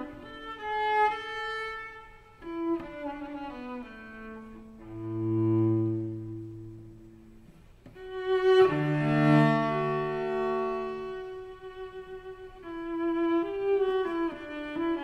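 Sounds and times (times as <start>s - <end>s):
classical music with held notes: 0.0s - 15.0s.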